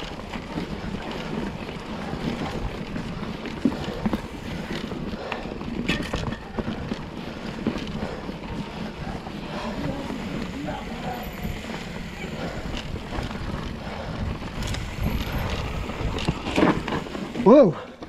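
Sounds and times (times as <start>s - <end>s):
bike rattling and knocking: 0.0s - 18.0s
tyres rolling over rock: 0.0s - 18.0s
wind on microphone: 0.6s - 17.4s.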